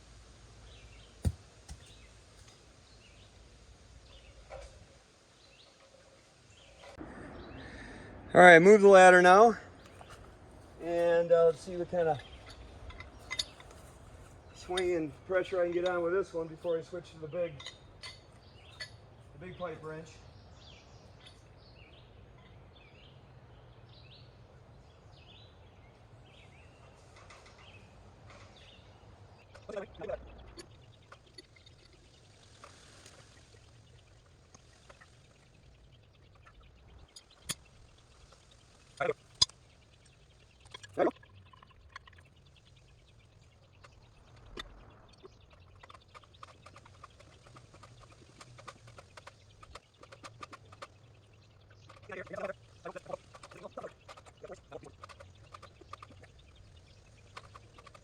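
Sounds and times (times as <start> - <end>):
low steady hum: 0.0 - 58.0
faint bird chirps: 9.7 - 58.0.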